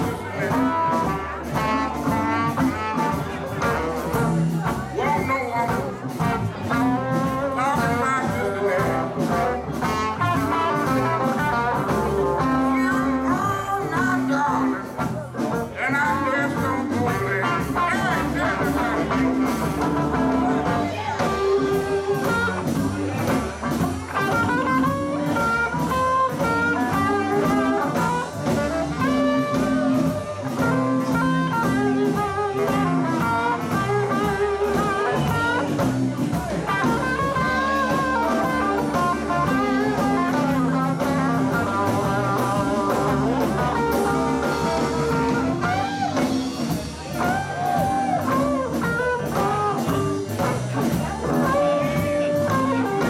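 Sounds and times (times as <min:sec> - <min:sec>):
bass guitar: 0:00.0 - 0:53.0
drum kit: 0:00.0 - 0:53.0
electric guitar: 0:00.0 - 0:53.0
keyboard: 0:00.0 - 0:53.0.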